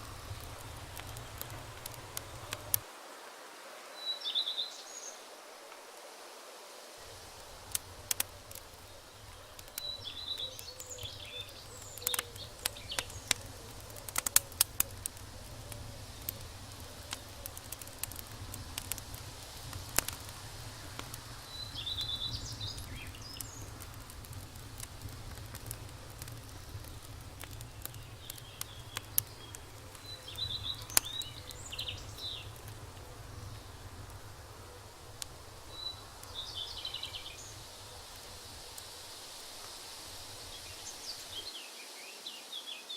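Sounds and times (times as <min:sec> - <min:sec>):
birds chirping: 0:00.0 - 0:02.8, 0:07.0 - 0:41.8
sharp clicks and pops: 0:00.0 - 0:02.8, 0:07.2 - 0:38.9
steady low rumble: 0:00.0 - 0:02.8, 0:07.1 - 0:39.2.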